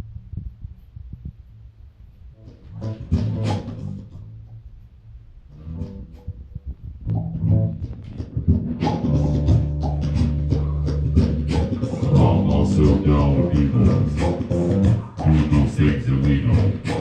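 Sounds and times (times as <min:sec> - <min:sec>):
bass guitar: 0:00.0 - 0:17.0.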